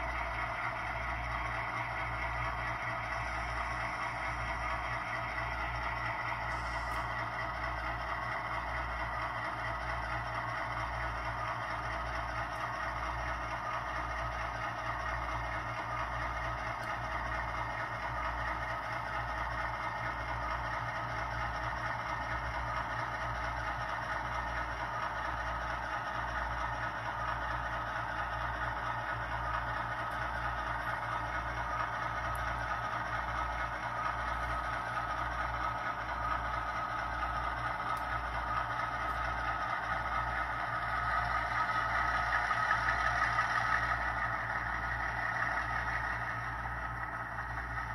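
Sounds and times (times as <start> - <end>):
model locomotive diesel engine sound: 0.0 - 47.9.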